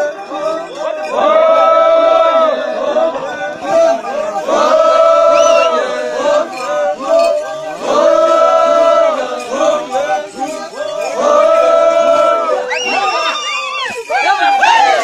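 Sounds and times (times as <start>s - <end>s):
crowd chanting in unison: 0.0s - 13.5s, 14.1s - 15.0s.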